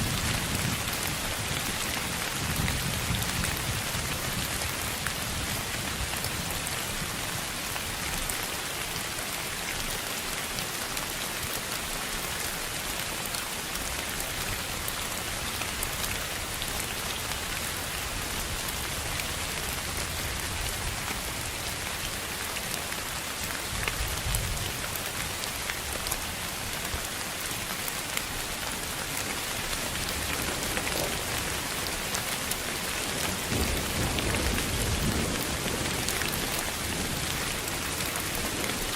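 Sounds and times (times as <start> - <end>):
rain-like hiss: 0.0 - 38.9.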